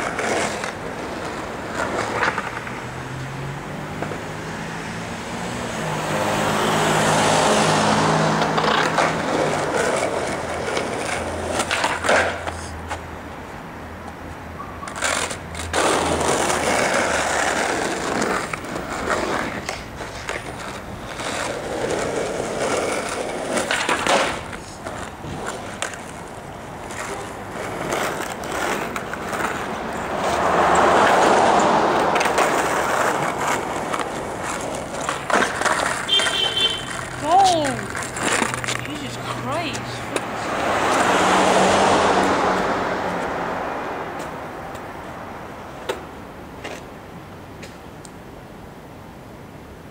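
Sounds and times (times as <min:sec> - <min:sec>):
skateboard clacking on ground: 0:00.0 - 0:02.8, 0:08.3 - 0:41.4, 0:42.2 - 0:45.0, 0:45.7 - 0:47.0
skateboard wheels rolling on asphalt: 0:00.0 - 0:49.9.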